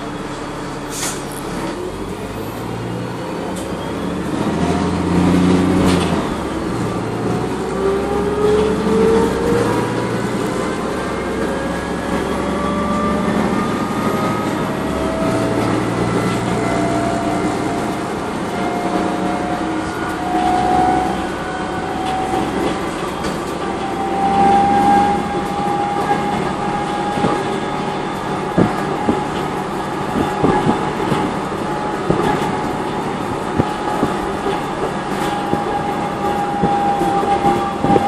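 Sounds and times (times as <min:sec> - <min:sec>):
engine and road rumble: 0:00.0 - 0:38.0
transmission gear whine: 0:00.0 - 0:38.0.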